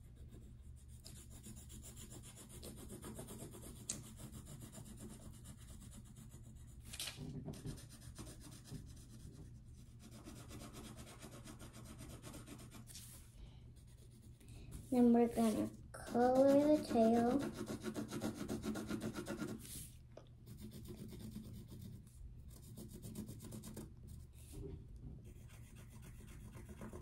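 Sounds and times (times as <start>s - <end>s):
pencil scratching on paper: 0.0s - 13.2s, 13.8s - 24.6s, 25.2s - 27.0s.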